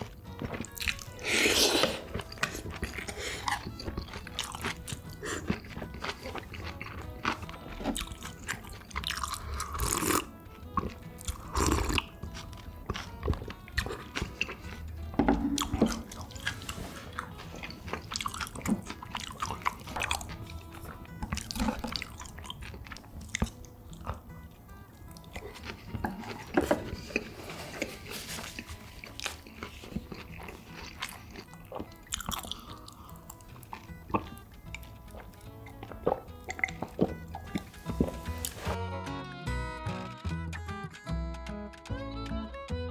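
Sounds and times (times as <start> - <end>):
chewing and crunching food: 0.0 - 38.8
soft background music: 0.0 - 42.9.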